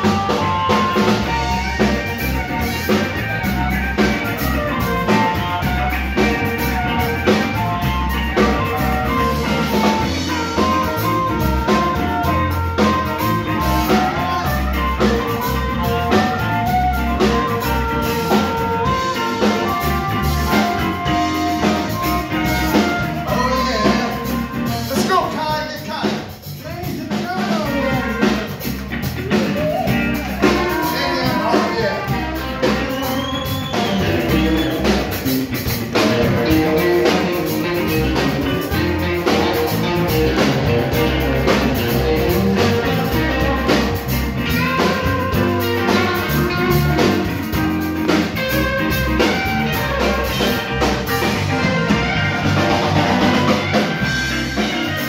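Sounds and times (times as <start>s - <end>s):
sliding bending guitar notes: 0.0s - 25.1s, 27.5s - 55.0s
live blues band: 0.0s - 55.0s.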